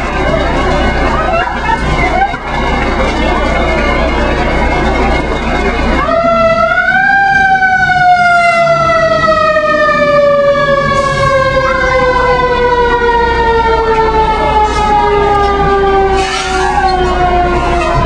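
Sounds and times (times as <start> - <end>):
fire siren winding down: 0.0 - 18.0.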